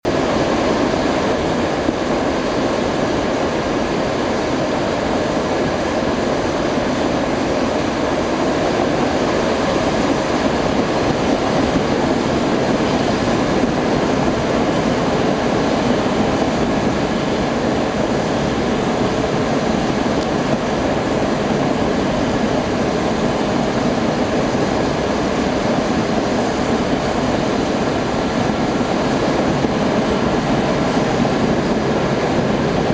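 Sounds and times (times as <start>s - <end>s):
furnace air rushing: 0.0s - 32.9s.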